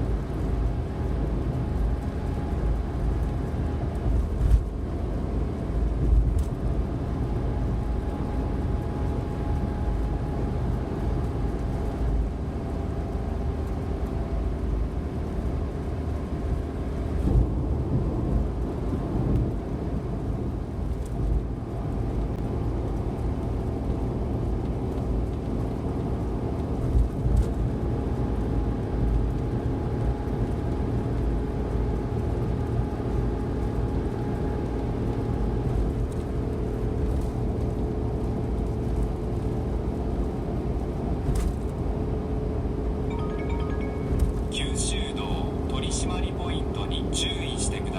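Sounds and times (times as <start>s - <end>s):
van engine hum: 0.0s - 47.9s.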